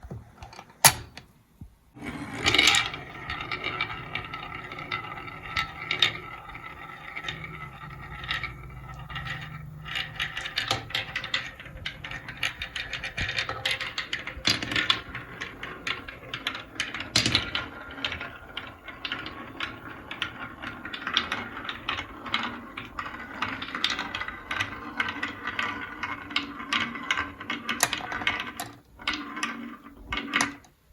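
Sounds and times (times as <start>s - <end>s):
marbles clicking on track: 2.0s - 30.7s
marbles rolling down a track: 2.0s - 30.8s.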